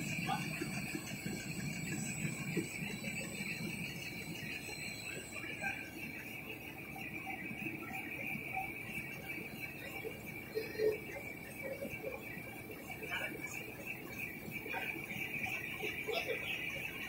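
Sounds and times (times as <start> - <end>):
printing machine running: 0.0 - 17.0.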